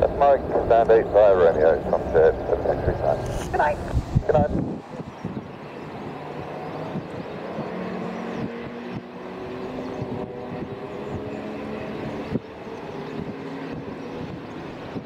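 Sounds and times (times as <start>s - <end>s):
aircraft engines running: 0.0s - 15.0s
wind on microphone: 0.0s - 15.0s.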